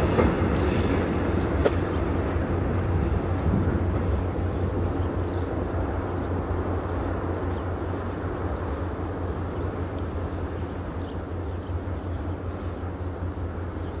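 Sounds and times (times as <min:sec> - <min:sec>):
diesel locomotive engines rumbling: 0:00.0 - 0:14.0.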